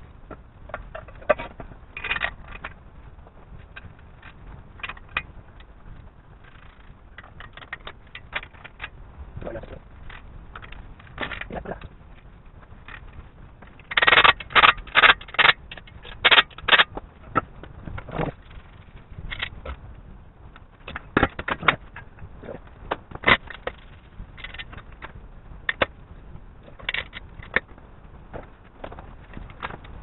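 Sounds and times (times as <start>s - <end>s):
scattered clicks and knocks: 0.2s - 9.0s, 9.6s - 19.8s, 20.5s - 26.0s, 26.6s - 30.0s.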